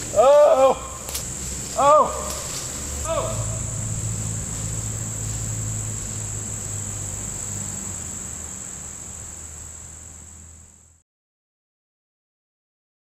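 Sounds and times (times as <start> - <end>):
insects chirping: 0.0 - 11.0
low steady hum: 0.0 - 11.0.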